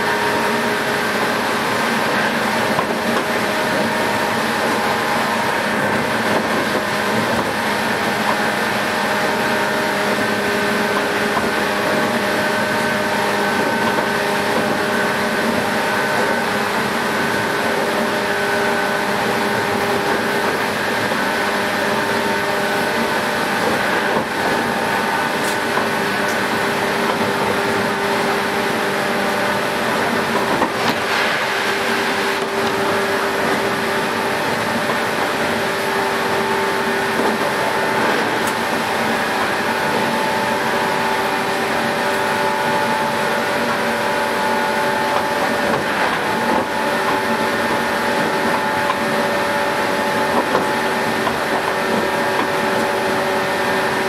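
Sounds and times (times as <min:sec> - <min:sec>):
train motor whine: 0:00.0 - 0:54.0
train wheels on rails: 0:00.0 - 0:54.0.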